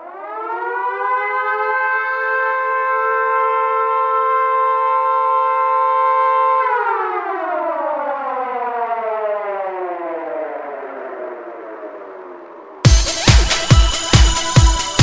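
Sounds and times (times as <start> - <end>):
siren winding down: 0.0 - 15.0.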